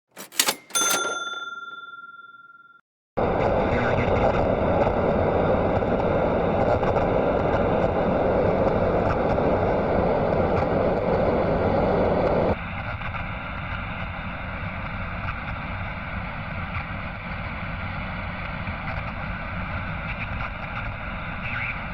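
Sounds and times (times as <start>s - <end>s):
radio static hiss and crackle: 3.2s - 21.9s.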